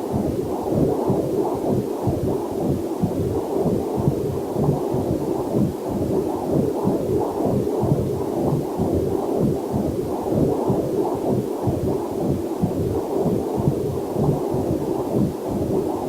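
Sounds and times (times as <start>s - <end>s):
fetal doppler heartbeat whooshing: 0.0s - 16.0s.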